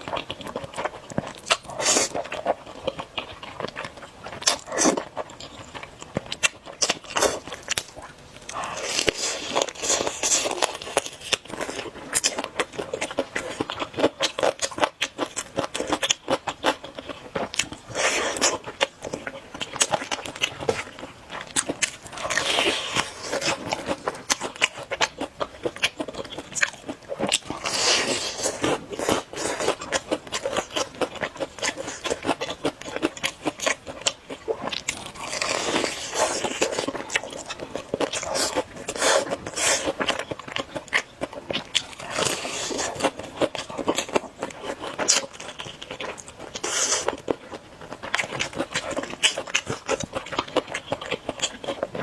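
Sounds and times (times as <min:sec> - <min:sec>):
wet chewing and smacking: 0:00.0 - 0:52.0.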